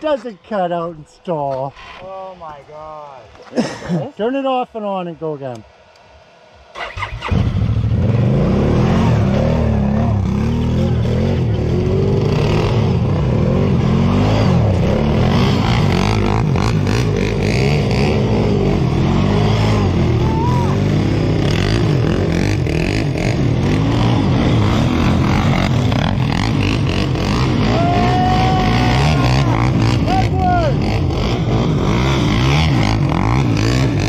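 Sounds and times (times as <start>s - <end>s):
off-road vehicle engine revving: 6.7s - 34.0s.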